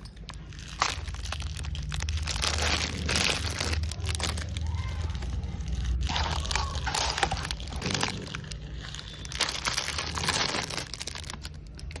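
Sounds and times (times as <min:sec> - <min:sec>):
packaging crinkling: 0:00.0 - 0:12.0
steady low hum: 0:00.0 - 0:12.0.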